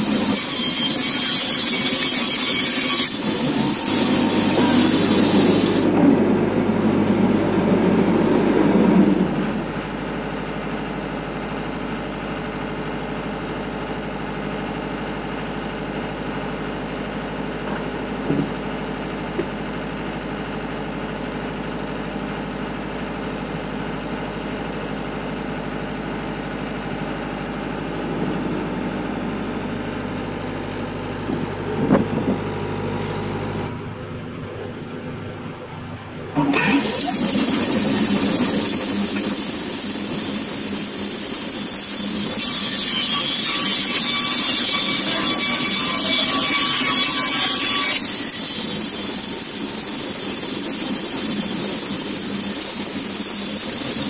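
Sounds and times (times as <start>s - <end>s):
band sawmill running: 0.0s - 54.0s
diesel generator running: 0.0s - 54.0s.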